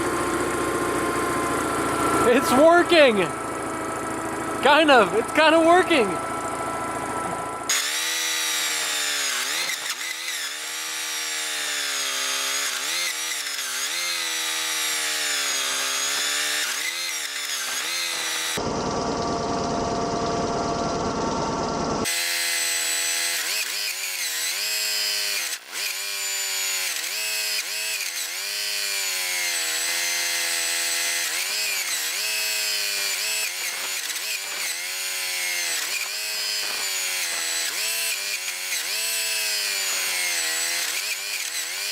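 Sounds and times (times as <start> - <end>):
motor spinning under load: 6.2 - 41.9.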